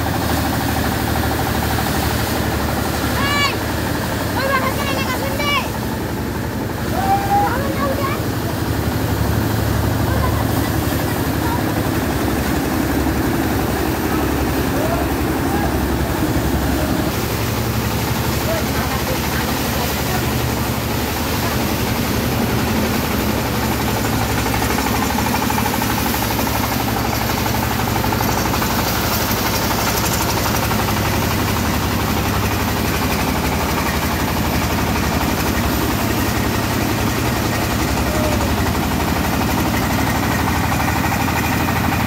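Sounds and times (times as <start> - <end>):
low engine drone: 0.0 - 42.0.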